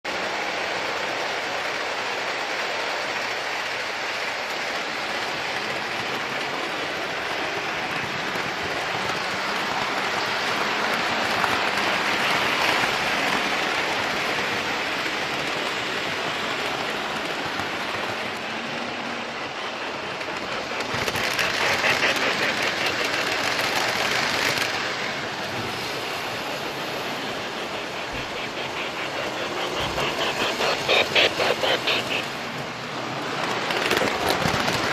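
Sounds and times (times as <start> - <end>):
train rolling past: 0.1 - 34.9
rapid wheel clatter: 4.6 - 34.9.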